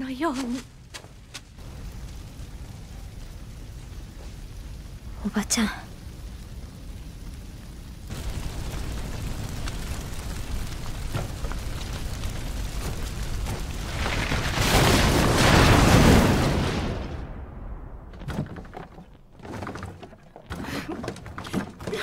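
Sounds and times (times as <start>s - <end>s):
large fire burning and crackling: 0.0s - 22.0s.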